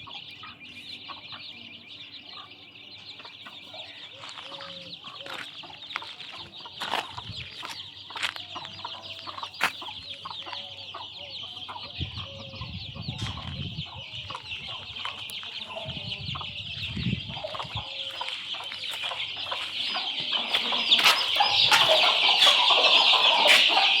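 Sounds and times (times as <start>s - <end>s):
chicks peeping: 0.0s - 24.0s
hen clucking: 0.0s - 24.0s.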